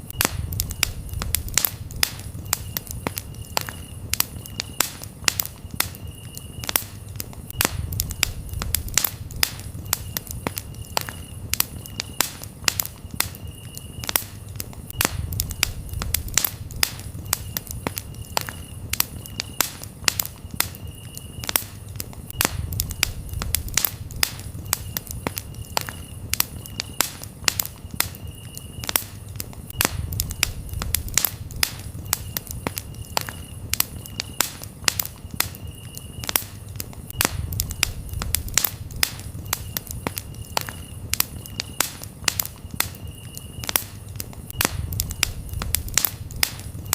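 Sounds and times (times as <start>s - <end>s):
cricket chirping: 0.0s - 46.9s
wood fire crackling and popping: 0.0s - 46.9s.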